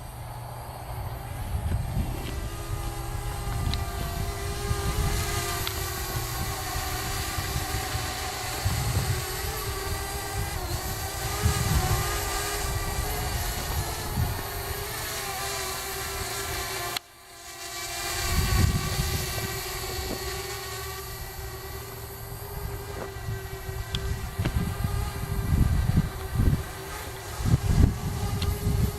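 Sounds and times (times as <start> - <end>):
quadcopter rotors whining: 0.0 - 28.9.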